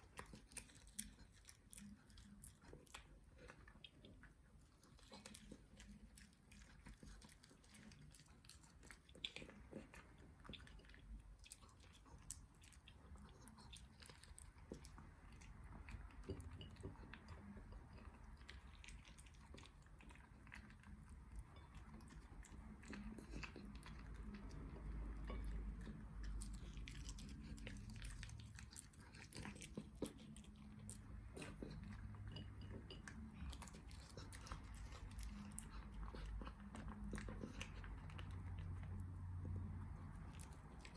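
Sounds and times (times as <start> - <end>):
dog chewing food: 0.0 - 40.9.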